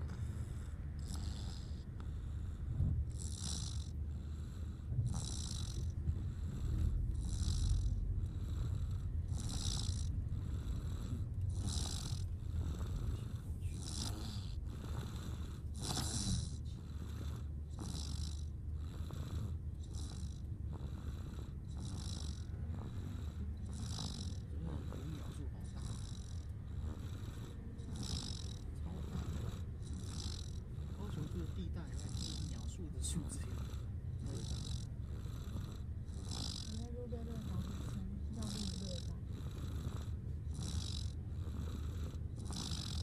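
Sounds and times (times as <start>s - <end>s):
steady low hum: 0.0s - 43.0s
toddler snoring: 0.0s - 43.0s.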